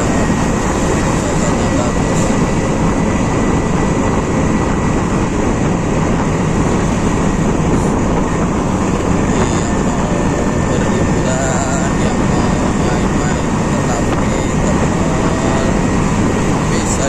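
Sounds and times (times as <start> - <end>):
scooter road noise: 0.0 - 17.0
wind rumble on microphone: 0.0 - 17.0.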